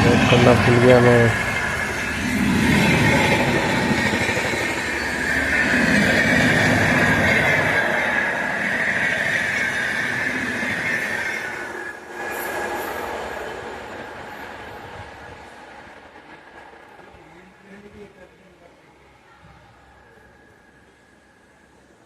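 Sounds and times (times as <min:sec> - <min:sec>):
train wheels squealing: 0:00.0 - 0:17.9
train rumble and clatter: 0:00.0 - 0:19.2.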